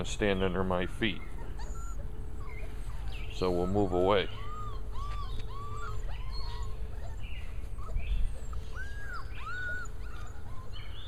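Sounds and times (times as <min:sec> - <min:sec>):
low steady rumble: 0:00.0 - 0:11.0
puppies whining: 0:00.0 - 0:11.0.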